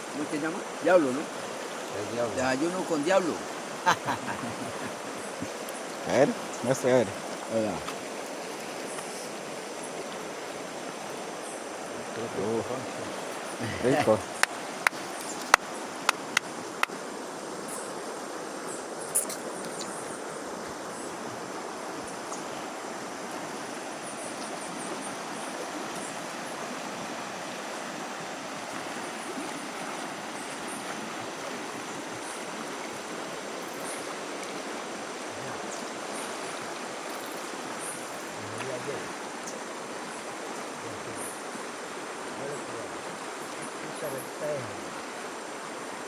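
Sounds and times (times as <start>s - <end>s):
flowing water rushing: 0.0s - 46.0s.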